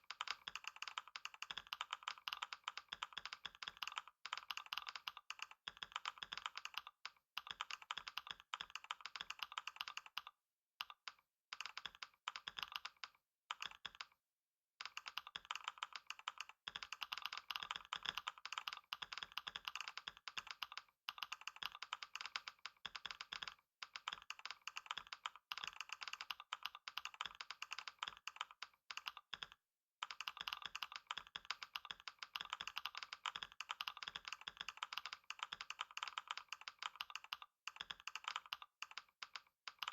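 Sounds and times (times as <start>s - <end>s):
fast typing on keyboard: 0.0s - 14.2s, 14.8s - 39.9s.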